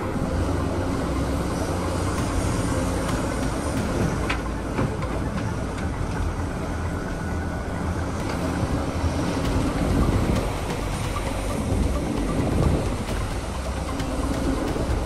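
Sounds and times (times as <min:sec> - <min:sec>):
excavator diesel engine rumbling: 0:00.0 - 0:15.0.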